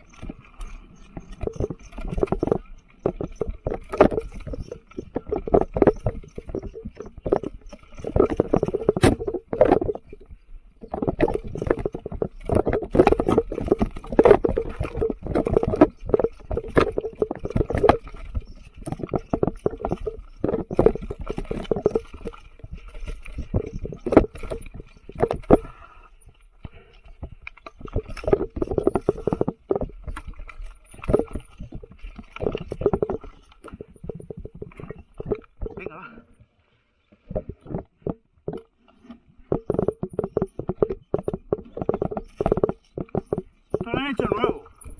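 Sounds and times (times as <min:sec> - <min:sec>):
mountain bike rattling on dirt trail: 0:00.0 - 0:44.9
tyre and frame noise: 0:00.0 - 0:44.9.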